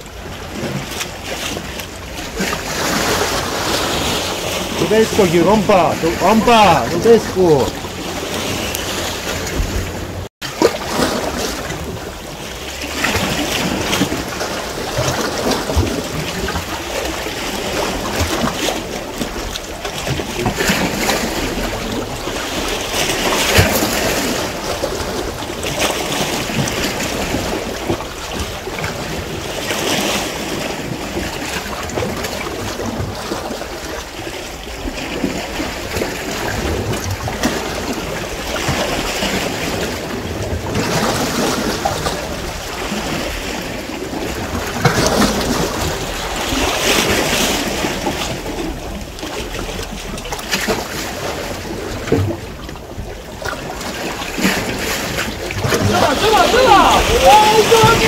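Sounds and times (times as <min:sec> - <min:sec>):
waves washing against rocks: 0:00.0 - 0:58.0.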